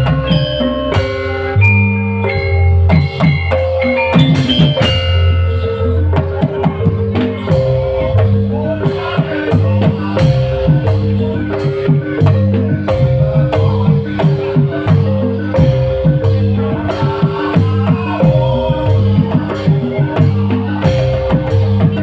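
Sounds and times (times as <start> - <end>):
bass line: 0.0 - 22.0
mallet percussion notes: 0.0 - 22.0.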